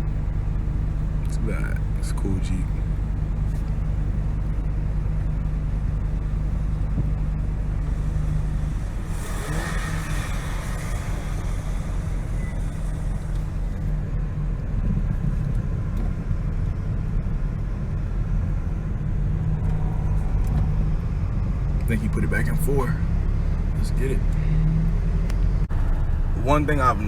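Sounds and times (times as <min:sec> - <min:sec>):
engine and drivetrain drone: 0:00.0 - 0:27.0.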